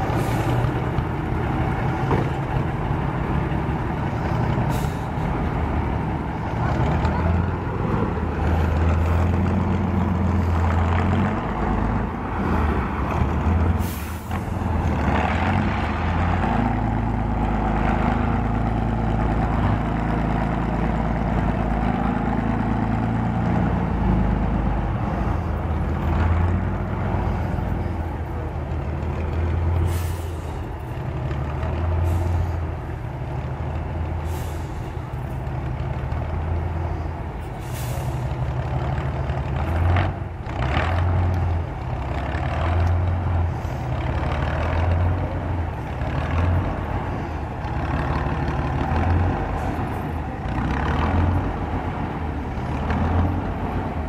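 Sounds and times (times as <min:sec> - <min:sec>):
diesel truck engine revving: 0:00.0 - 0:54.0.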